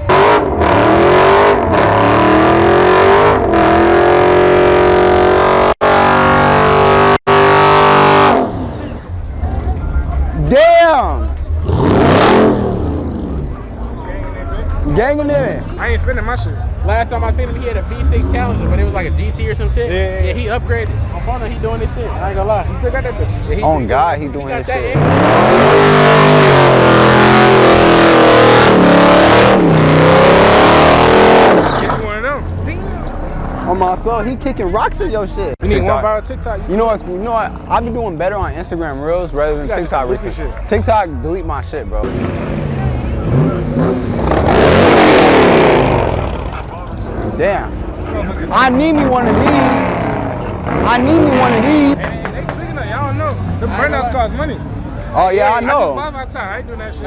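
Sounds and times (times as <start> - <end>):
car engine revving: 0.0 - 9.6, 11.3 - 23.9, 24.6 - 36.0, 42.0 - 55.0.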